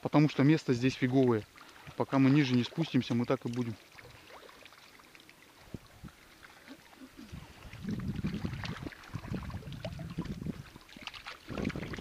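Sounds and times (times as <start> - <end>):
water splashing and sloshing: 0.1 - 12.0.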